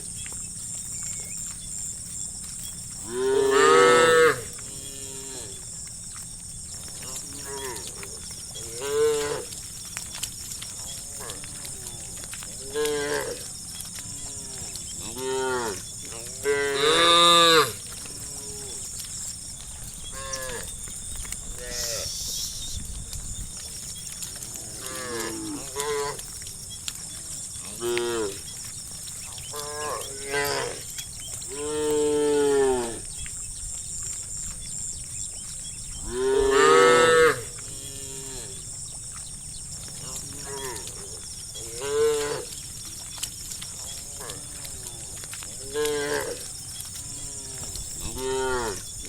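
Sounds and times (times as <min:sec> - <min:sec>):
cows mooing: 0:01.0 - 0:05.9, 0:06.6 - 0:22.9, 0:23.6 - 0:33.4, 0:35.6 - 0:38.9, 0:39.8 - 0:49.0.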